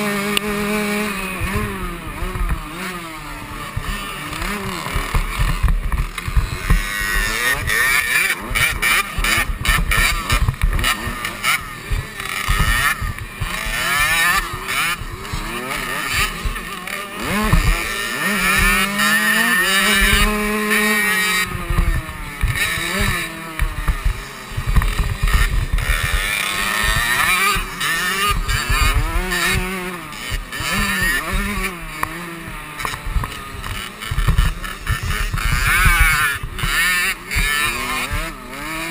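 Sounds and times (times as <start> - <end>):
two-stroke motocross engine revving: 0.0 - 38.9.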